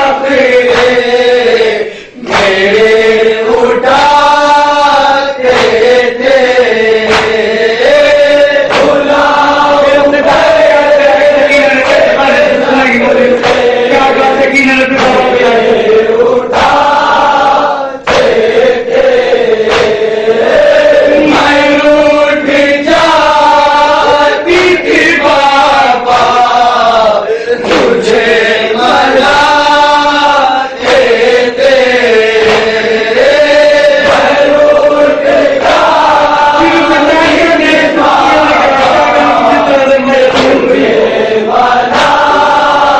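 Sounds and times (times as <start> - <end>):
man chanting through a microphone: 0.0 - 18.1, 18.7 - 42.9
group of men chanting: 0.0 - 42.9.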